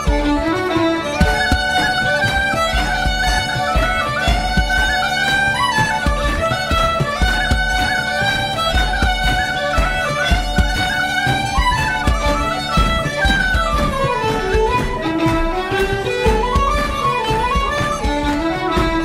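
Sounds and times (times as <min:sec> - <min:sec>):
fiddle playing quick melody: 0:00.0 - 0:19.0.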